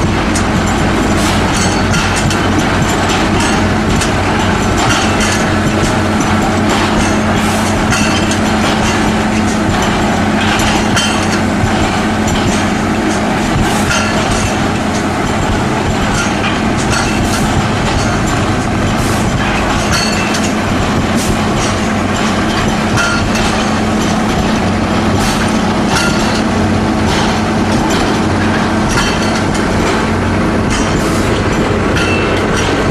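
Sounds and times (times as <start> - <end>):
engine drone: 0.0 - 32.9
hammers striking concrete: 0.0 - 32.9.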